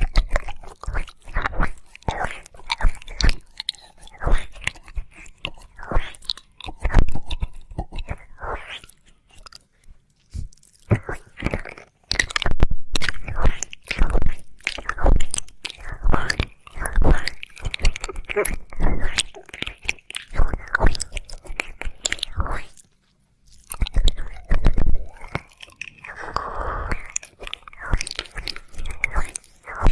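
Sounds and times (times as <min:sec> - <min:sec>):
wet licking and smacking: 0:00.0 - 0:29.9.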